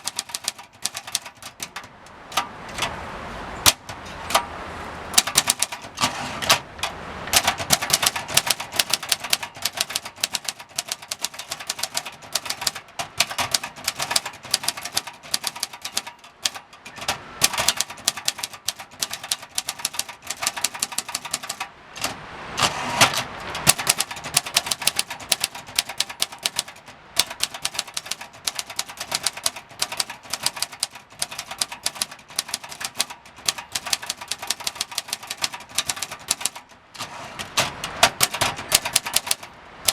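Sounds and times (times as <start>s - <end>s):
manual typewriter typing: 0.0s - 4.5s, 5.1s - 39.9s.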